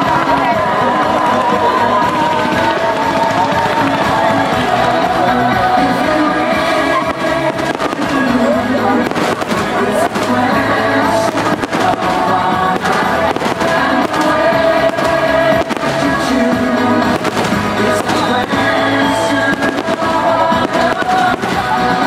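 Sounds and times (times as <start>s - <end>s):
fireworks bursting: 0.0s - 22.0s
music with held tones: 0.0s - 22.0s.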